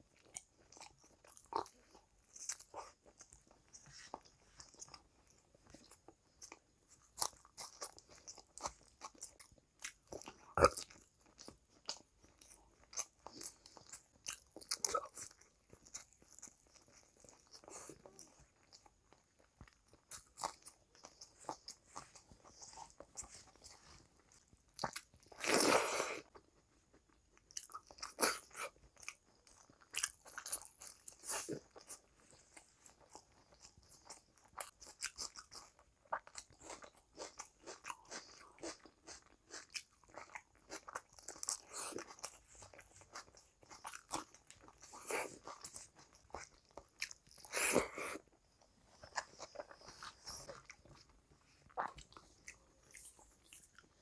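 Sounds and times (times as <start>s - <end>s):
wet chewing: 0.0s - 54.0s.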